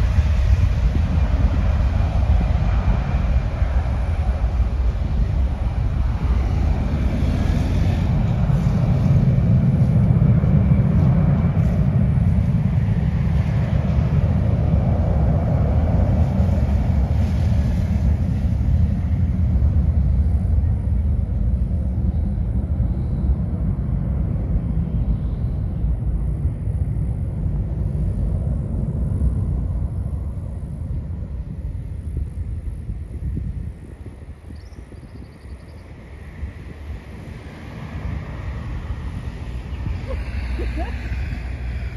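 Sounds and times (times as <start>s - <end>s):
jet engine roar at takeoff: 0.0s - 41.9s.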